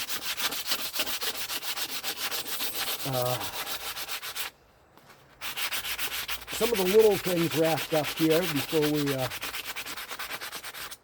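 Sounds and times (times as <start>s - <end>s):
hand sanding strokes: 0.0s - 4.5s, 5.3s - 11.0s.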